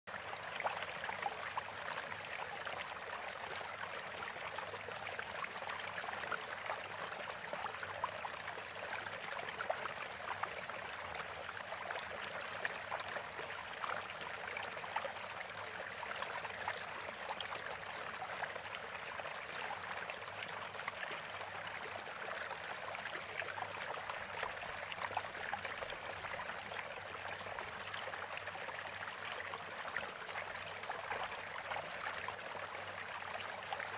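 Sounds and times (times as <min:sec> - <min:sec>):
running water trickling and splashing: 0:00.1 - 0:33.9.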